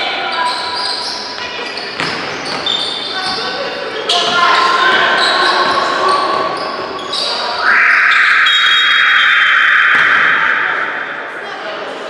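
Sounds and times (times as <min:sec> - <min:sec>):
court noise: 0:01.4 - 0:12.0.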